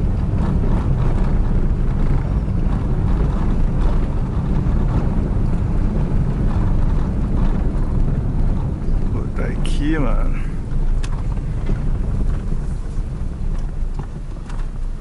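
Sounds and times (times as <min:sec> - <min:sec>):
moving vehicle running noise: 0:00.0 - 0:15.0
wind buffeting microphone: 0:00.0 - 0:15.0.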